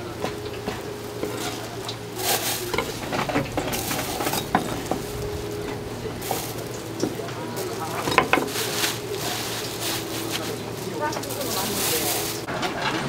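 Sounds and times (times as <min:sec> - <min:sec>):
rustling: 0:00.0 - 0:12.6
gloved hands scooping food: 0:00.2 - 0:12.5.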